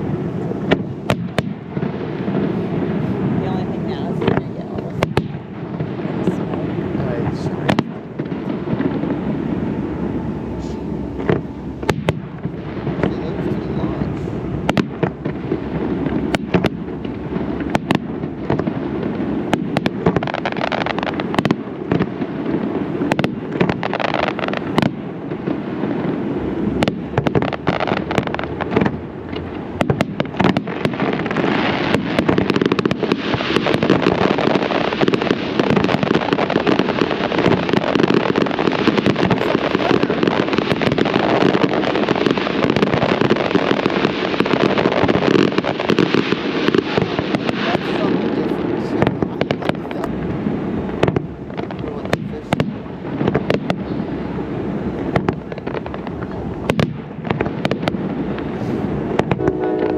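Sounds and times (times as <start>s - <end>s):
fireworks crackle: 0.0s - 59.9s
firework shells bursting: 4.1s - 59.9s.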